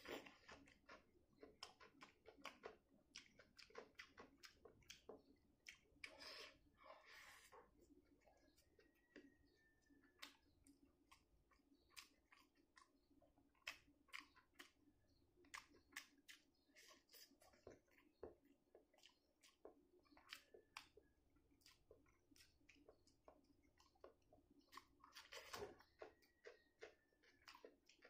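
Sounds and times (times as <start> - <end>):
person chewing with mouth smacks: 0.0 - 28.0.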